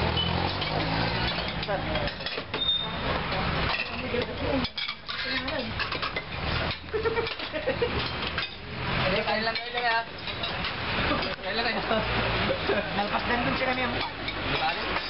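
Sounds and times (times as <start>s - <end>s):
dishes and cutlery clinking: 0.0s - 12.0s, 12.8s - 15.0s.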